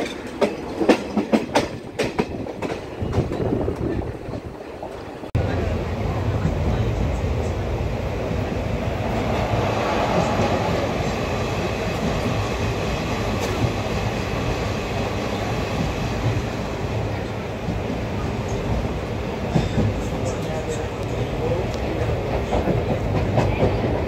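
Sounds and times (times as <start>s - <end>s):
train wheel clacks: 0.0s - 5.1s, 9.2s - 24.0s
train coach rumbling on rails: 0.0s - 24.0s.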